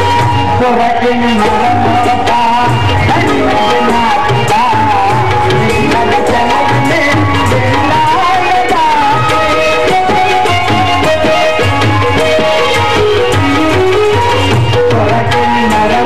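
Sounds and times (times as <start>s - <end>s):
drum beating steady rhythm: 0.0s - 16.0s
wavering melody: 0.0s - 16.0s.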